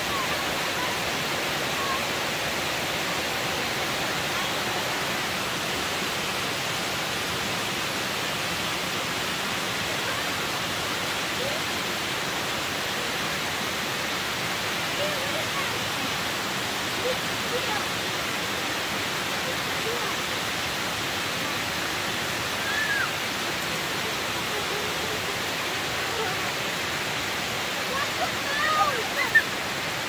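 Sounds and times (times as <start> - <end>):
water rushing down spillway: 0.0 - 30.0.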